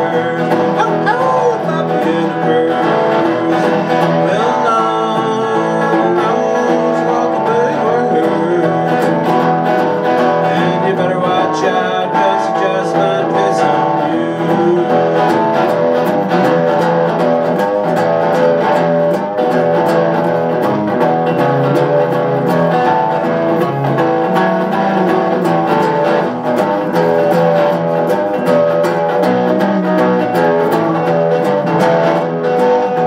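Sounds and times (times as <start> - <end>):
rockabilly guitars over a beat: 0.0 - 33.0.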